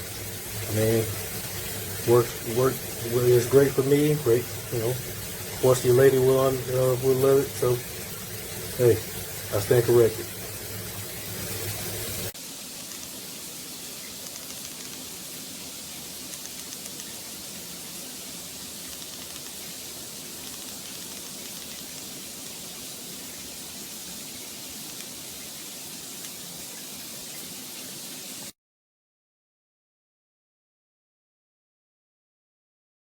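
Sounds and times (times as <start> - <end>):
steady background hiss: 0.0 - 28.5.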